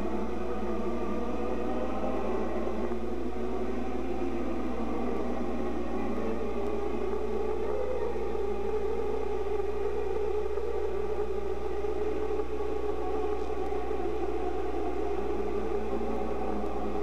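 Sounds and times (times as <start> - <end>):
droning spacecraft engine whir: 0.0 - 17.0.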